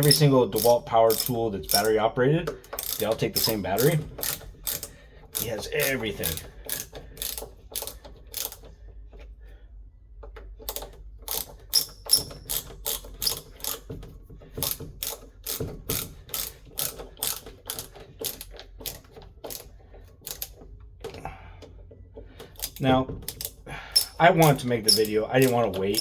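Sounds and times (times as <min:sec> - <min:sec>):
ratcheting screwdriver clicking: 0:00.0 - 0:08.8, 0:10.4 - 0:13.8, 0:14.6 - 0:20.6, 0:22.4 - 0:26.0.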